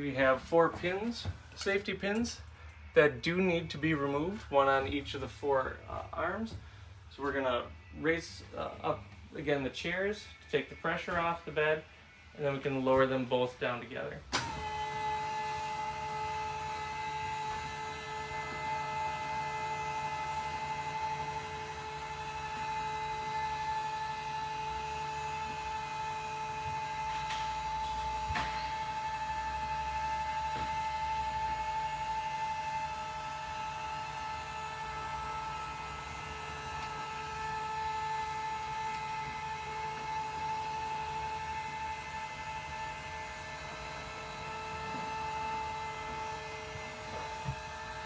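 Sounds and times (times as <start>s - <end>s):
electric lift motor whine and hum: 0.0s - 48.0s.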